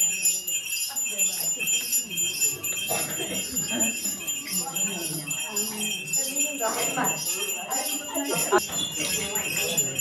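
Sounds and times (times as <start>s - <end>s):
small bells jingling: 0.0s - 10.0s.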